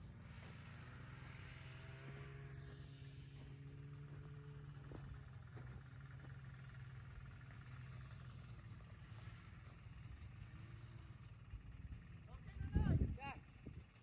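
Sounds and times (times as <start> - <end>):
snowmobile engine idling: 0.0 - 14.0.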